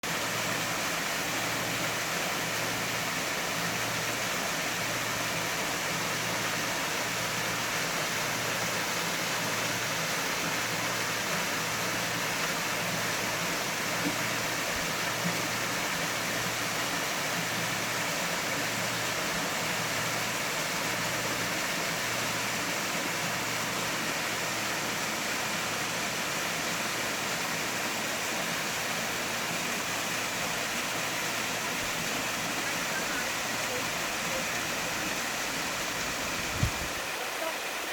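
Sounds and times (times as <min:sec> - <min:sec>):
water falling in a steady rush: 0:00.0 - 0:37.9.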